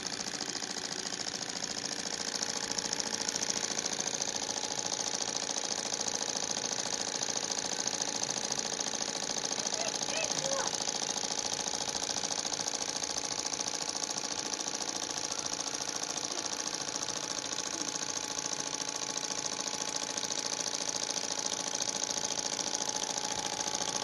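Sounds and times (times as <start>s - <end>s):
engine mechanical clatter: 0.0s - 24.0s.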